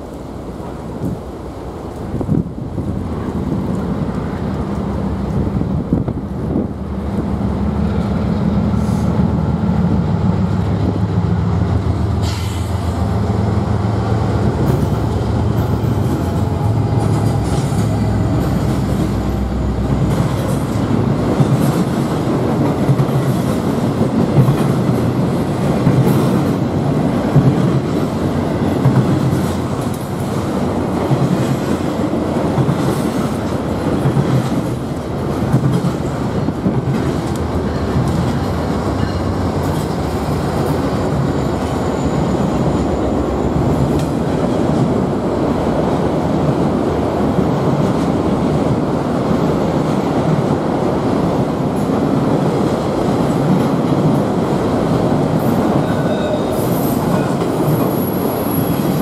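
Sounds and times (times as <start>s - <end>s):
diesel locomotive engine drone: 0.0s - 59.0s
rail clicks: 0.0s - 59.0s
train wheels rolling on rails: 0.0s - 59.0s.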